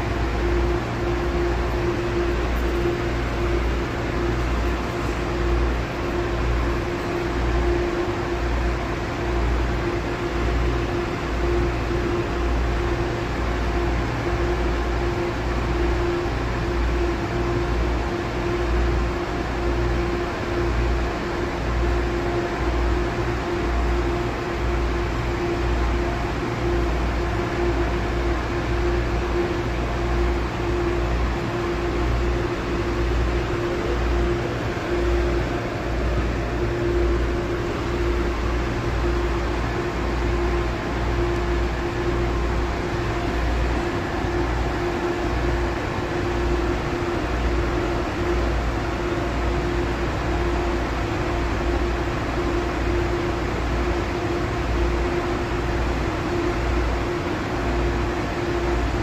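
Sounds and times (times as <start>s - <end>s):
train cabin rumble and hum: 0.0s - 59.0s.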